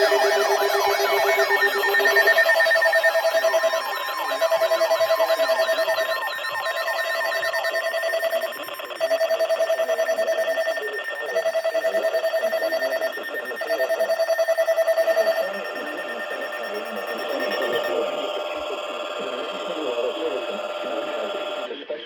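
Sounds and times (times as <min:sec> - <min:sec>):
fluttering electronic beep: 0:00.0 - 0:21.7
warbling alert tones: 0:00.0 - 0:21.7.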